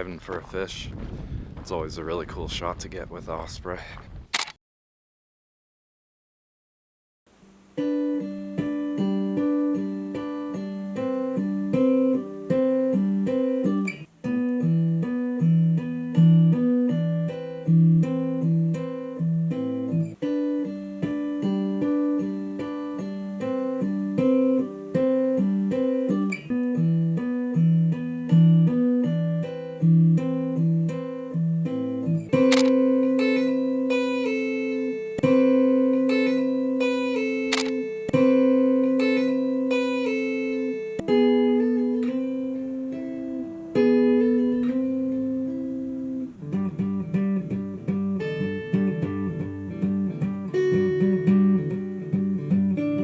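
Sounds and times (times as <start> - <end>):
fingerpicked acoustic guitar: 7.4 - 53.0.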